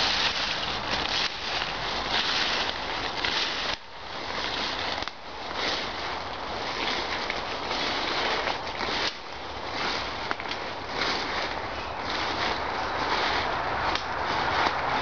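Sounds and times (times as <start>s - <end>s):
rustling through undergrowth: 0.0s - 15.0s.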